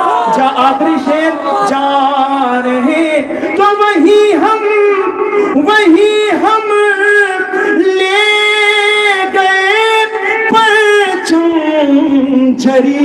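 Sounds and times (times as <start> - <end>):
man singing devotional verse: 0.0 - 13.0.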